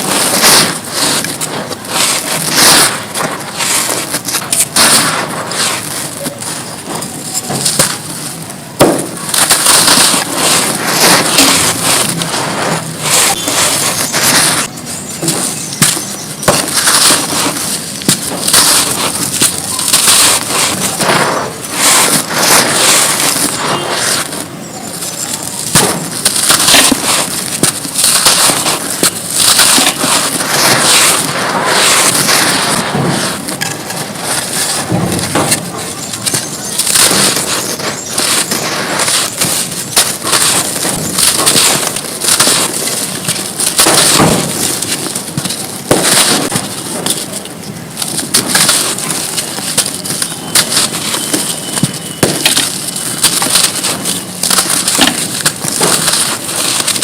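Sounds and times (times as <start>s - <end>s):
mud crunching: 0.0s - 57.0s.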